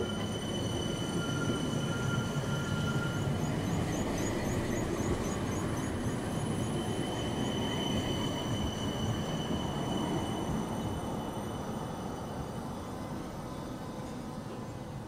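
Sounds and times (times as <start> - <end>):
tram wheels rumbling on rails: 0.0 - 13.2.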